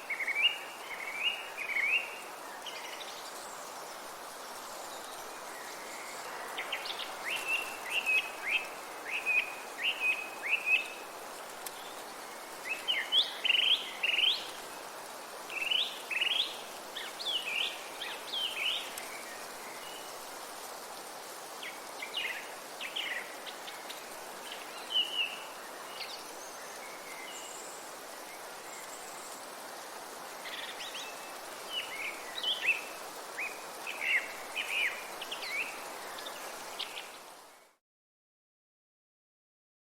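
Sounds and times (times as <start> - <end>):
songbirds chirping: 0.0 - 20.6, 21.5 - 37.8
steady background hiss: 0.0 - 37.8.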